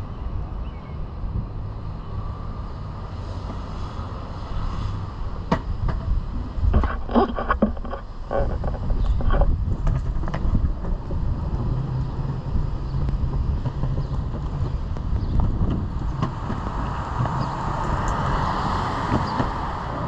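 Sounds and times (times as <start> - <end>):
longboard rolling on pavement: 0.0 - 20.0.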